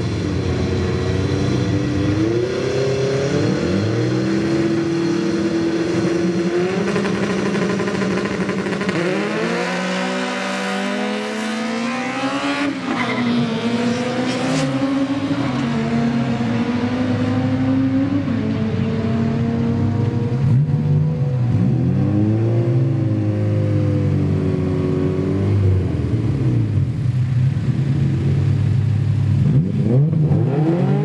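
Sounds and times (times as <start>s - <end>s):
car engines revving and accelerating: 0.0s - 31.0s.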